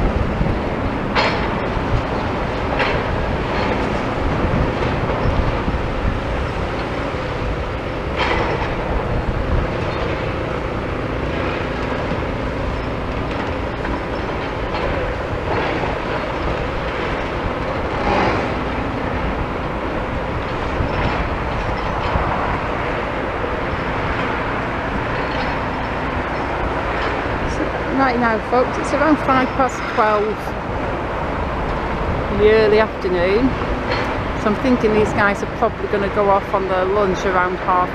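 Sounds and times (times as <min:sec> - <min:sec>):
excavator rumble and clatter: 0:00.0 - 0:37.9.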